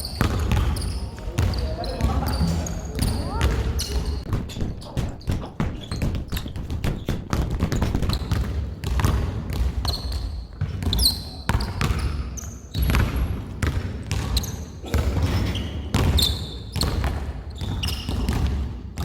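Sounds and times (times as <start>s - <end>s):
sneaker squeaks: 0.0s - 8.6s, 9.7s - 18.6s
basketball dribbling on court: 0.0s - 19.0s.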